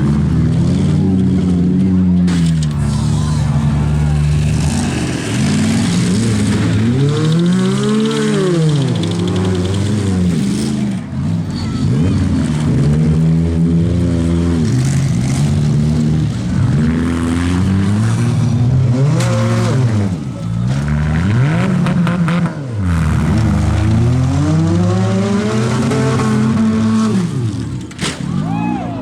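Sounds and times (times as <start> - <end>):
car engines revving hard: 0.0 - 29.0.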